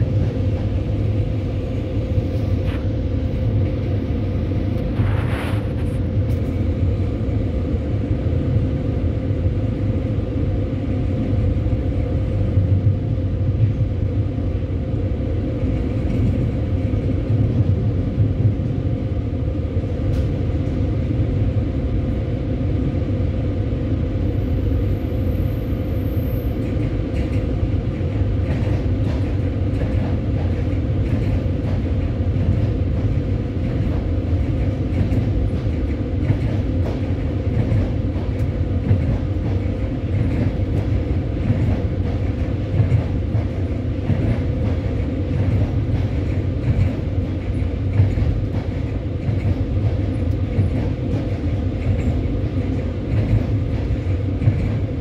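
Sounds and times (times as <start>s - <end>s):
constant hum: 0.0s - 55.0s
train wheels rumbling: 0.0s - 55.0s.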